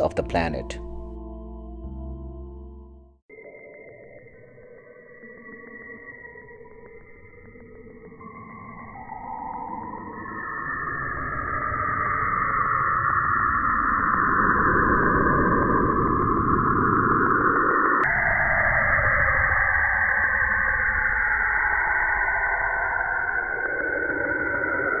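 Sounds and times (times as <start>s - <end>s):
eerie hiss with swirling tones: 3.3s - 25.0s.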